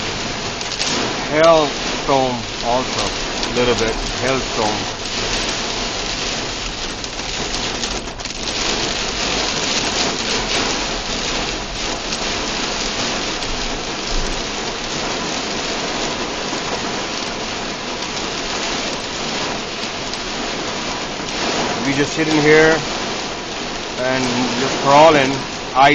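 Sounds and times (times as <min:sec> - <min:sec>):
rain and hail on car roof: 0:00.0 - 0:25.9.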